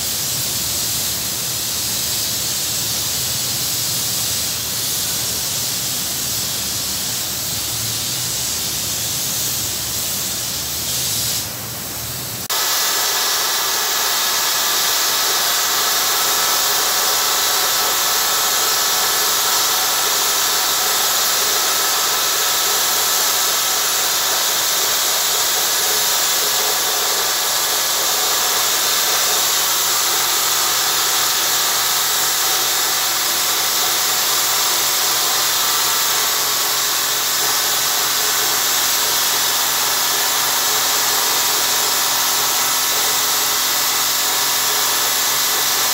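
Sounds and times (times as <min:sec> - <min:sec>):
spray guns hissing: 0:00.1 - 0:45.9.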